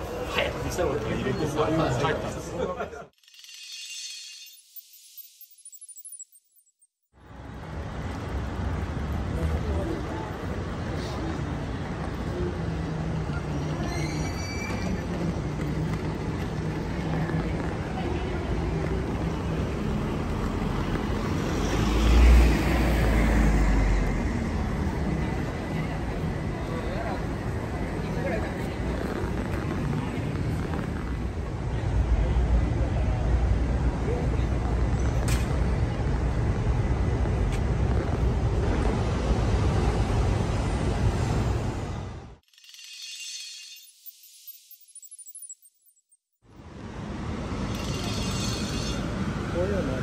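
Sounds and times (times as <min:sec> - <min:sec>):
street traffic rumble: 0:00.0 - 0:03.1, 0:07.1 - 0:42.4, 0:46.4 - 0:50.0.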